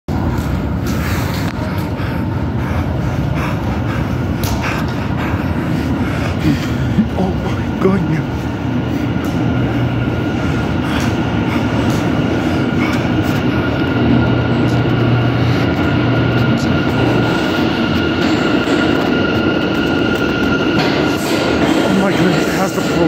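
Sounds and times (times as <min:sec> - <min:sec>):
high whine: 0:00.1 - 0:23.0
train wheels rumbling on rail: 0:00.1 - 0:23.0.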